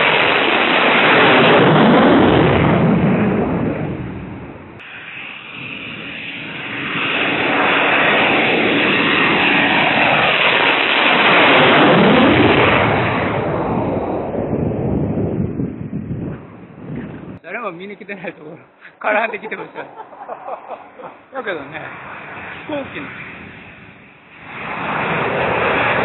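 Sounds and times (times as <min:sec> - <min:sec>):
fighter jet passing overhead: 0:00.0 - 0:17.4, 0:19.5 - 0:26.0.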